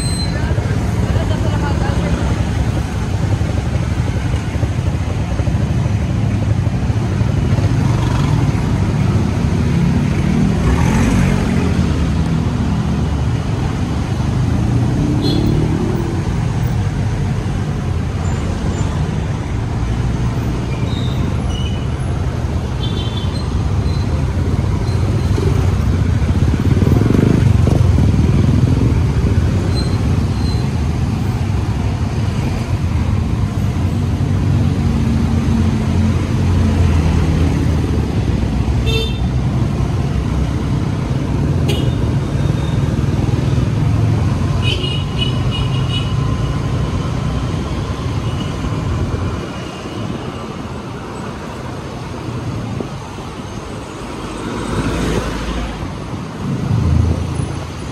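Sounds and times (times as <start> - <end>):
passing cars and motorcycles: 0.0 - 57.9
scooter engine and road rumble: 0.0 - 57.9.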